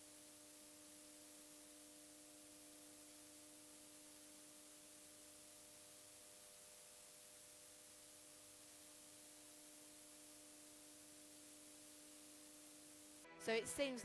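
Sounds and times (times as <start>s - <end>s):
faint steady hiss: 0.0s - 13.3s.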